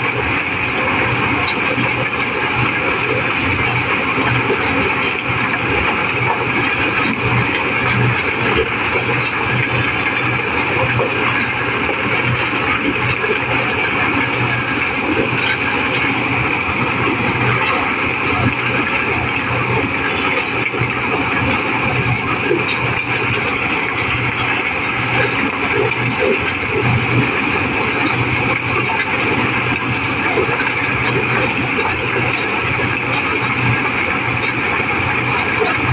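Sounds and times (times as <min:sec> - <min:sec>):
diesel corn sheller running: 0:00.0 - 0:35.9.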